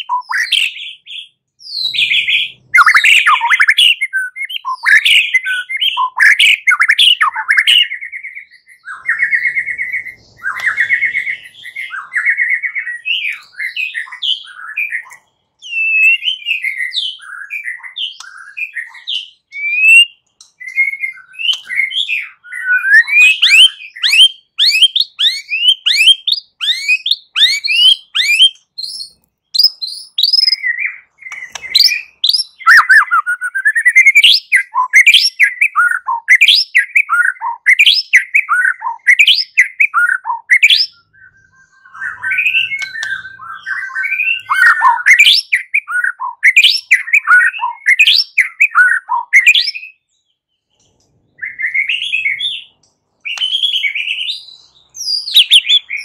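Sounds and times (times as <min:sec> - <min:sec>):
bird singing warbling phrases: 0:00.0 - 0:56.0.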